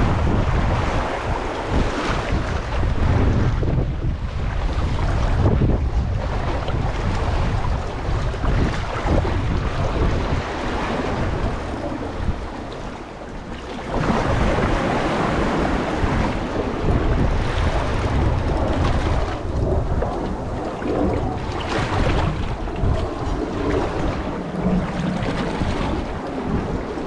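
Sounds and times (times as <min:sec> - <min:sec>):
seawater surging among blocks: 0:00.0 - 0:27.0
wind buffeting microphone: 0:00.0 - 0:27.0.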